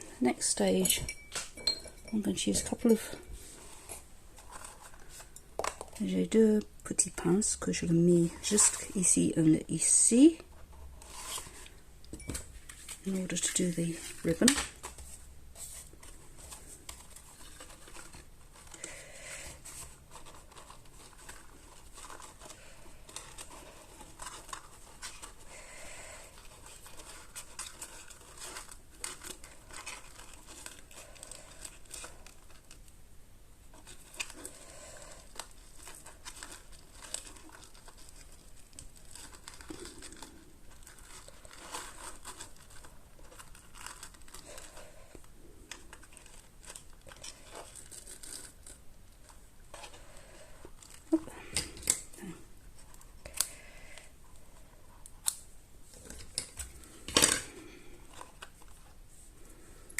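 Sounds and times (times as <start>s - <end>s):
paper crinkling and rustling: 2.2s - 59.6s.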